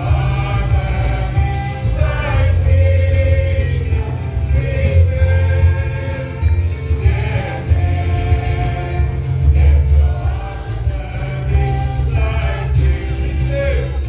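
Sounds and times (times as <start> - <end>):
choir singing gospel: 0.0 - 14.0
pulsing bass line: 0.0 - 14.0.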